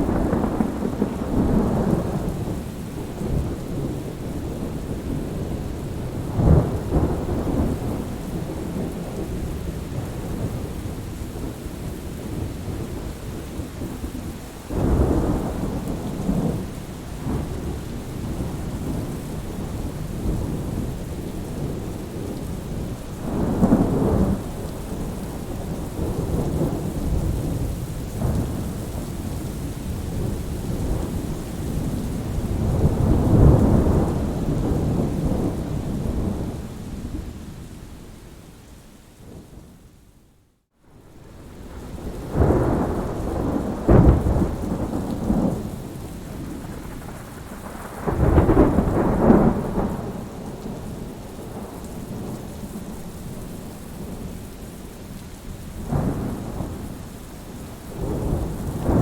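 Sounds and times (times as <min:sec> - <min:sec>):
thunder rumbling: 0:00.0 - 0:14.1, 0:14.7 - 0:37.6, 0:41.0 - 0:54.5, 0:55.8 - 0:59.0
steady rain: 0:00.0 - 0:59.0.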